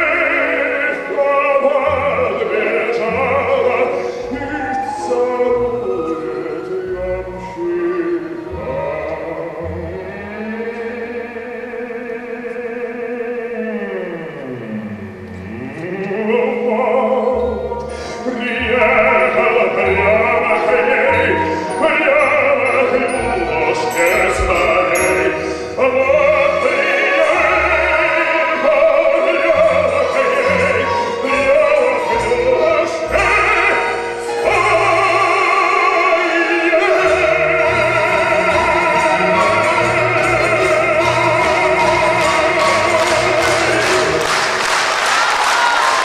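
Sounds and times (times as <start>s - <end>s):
operatic baritone singing: 0.0s - 44.7s
symphony orchestra: 0.0s - 46.0s.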